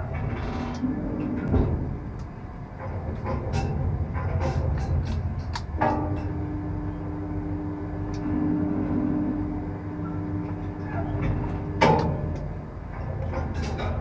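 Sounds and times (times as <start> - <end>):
crane machinery droning: 0.0 - 14.0.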